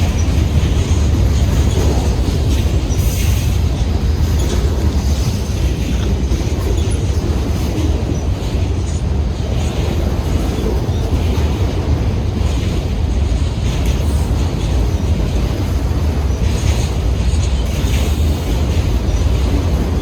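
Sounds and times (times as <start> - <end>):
freight train rumbling past: 0.0 - 20.0
wind buffeting microphone: 0.0 - 20.0.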